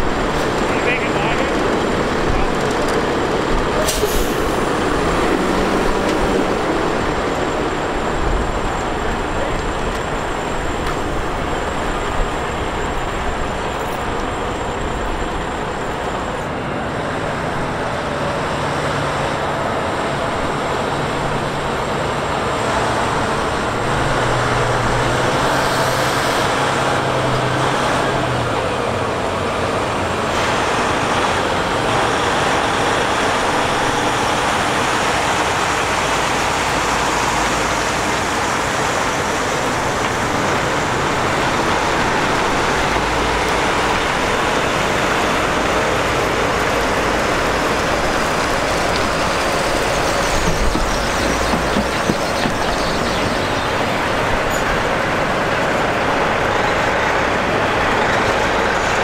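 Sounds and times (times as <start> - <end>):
road noise rumble: 0.0 - 59.0
truck diesel engine under load: 0.0 - 59.0.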